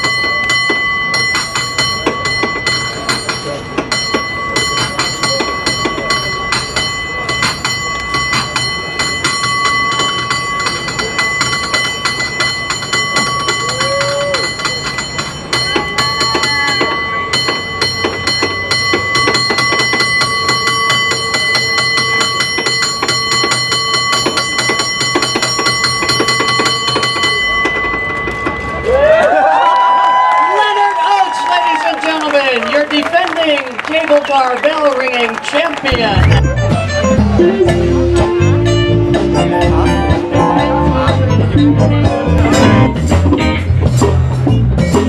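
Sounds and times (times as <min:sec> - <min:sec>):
cable car bell ringing rapidly: 0:00.0 - 0:45.0.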